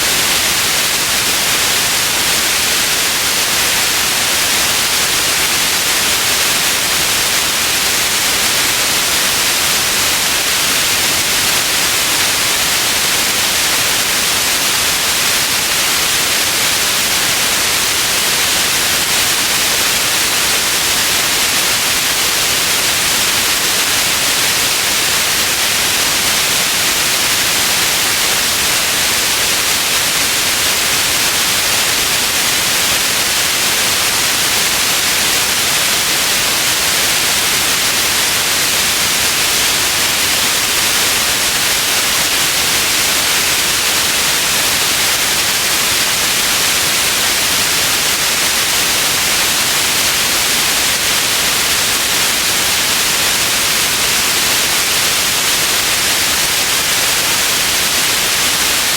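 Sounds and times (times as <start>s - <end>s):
steady white noise hiss: 0.0s - 58.9s.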